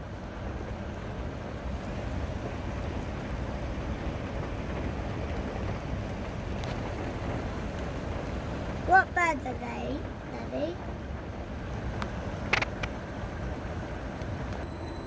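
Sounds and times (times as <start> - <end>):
wind and rain on microphone: 0.0 - 15.0.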